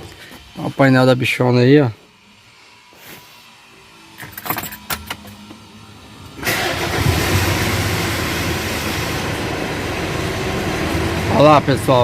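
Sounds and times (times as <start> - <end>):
diesel engine running: 2.4 - 12.0.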